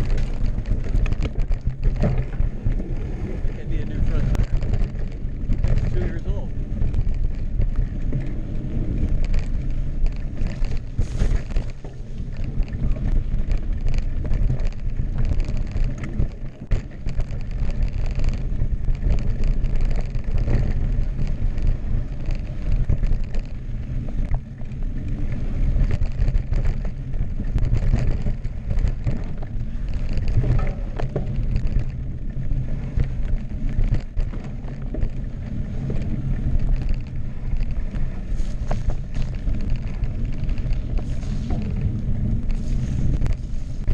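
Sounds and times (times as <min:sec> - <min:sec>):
bike clattering over stones: 0:00.0 - 0:43.9
bike tyres rumbling on dirt: 0:00.0 - 0:43.9
wind rumble on microphone: 0:00.0 - 0:43.9.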